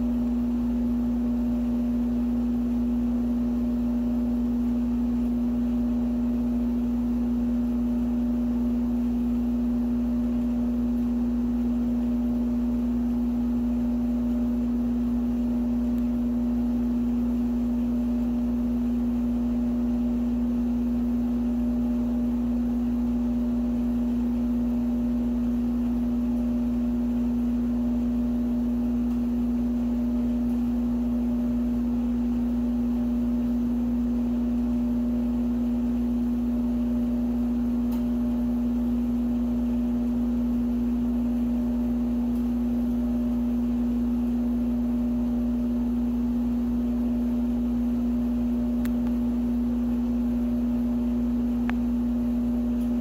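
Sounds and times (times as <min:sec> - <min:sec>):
steady tonal hum: 0:00.0 - 0:53.0.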